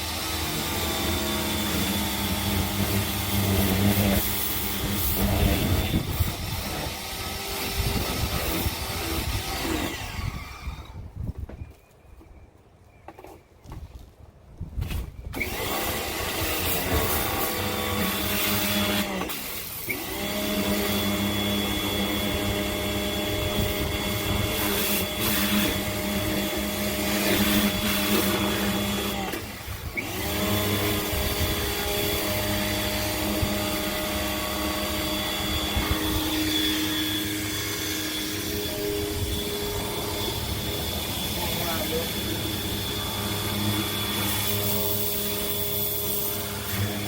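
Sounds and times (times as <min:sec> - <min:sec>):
pressure washer motor whining: 0:00.0 - 0:11.1, 0:15.3 - 0:47.0.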